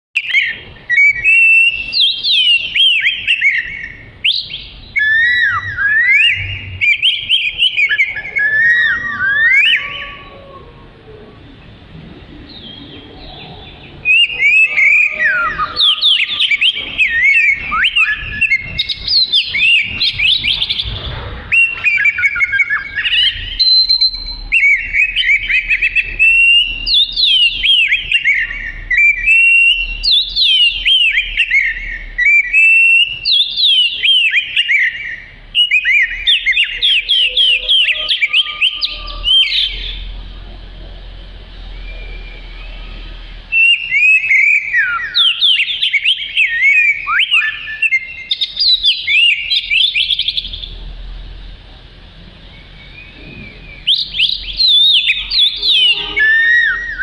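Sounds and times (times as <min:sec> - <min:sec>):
bird singing whistled song: 0:00.2 - 0:10.6, 0:12.5 - 0:40.1, 0:41.7 - 0:50.8, 0:52.5 - 0:57.0.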